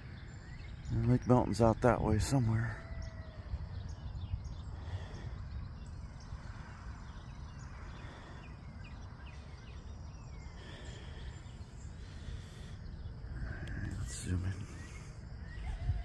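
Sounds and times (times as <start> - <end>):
songbirds chirping and whistling: 0.0 - 16.0.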